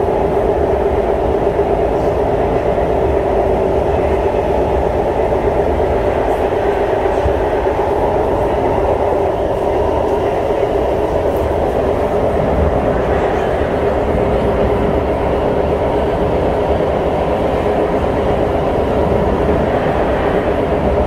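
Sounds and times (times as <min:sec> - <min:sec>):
constant hum: 0:00.0 - 0:21.0
train wheels rumbling on track: 0:00.0 - 0:21.0.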